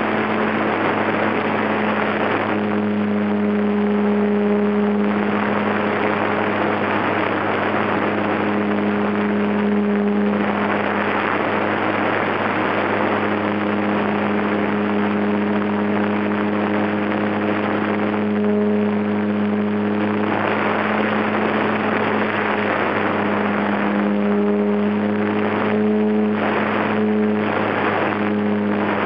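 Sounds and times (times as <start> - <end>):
electric motor and propeller: 0.0 - 29.0
wind rushing over microphone: 0.0 - 29.0.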